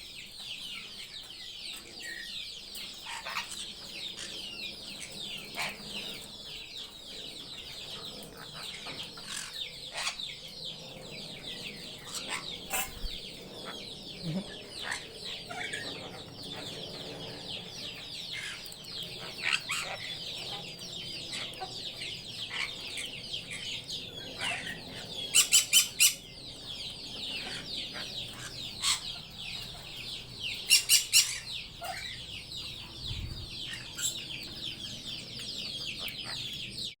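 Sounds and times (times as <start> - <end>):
many birds chattering: 0.0 - 37.0
loud sharp bird calls: 2.0 - 37.0.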